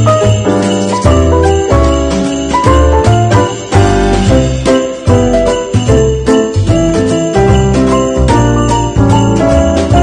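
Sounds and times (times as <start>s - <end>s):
background music with bass: 0.0s - 10.0s
jingle bells shaking: 0.0s - 10.0s.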